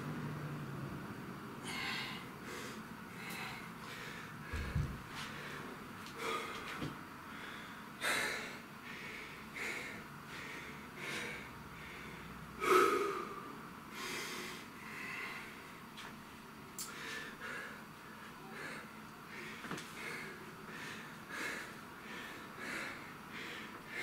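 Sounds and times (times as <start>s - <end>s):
man breathing hard: 1.6s - 15.8s, 16.8s - 24.0s.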